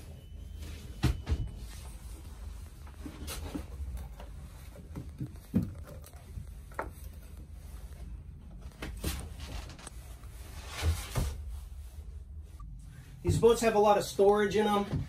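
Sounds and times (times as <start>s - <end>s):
low steady rumble: 1.4s - 14.6s.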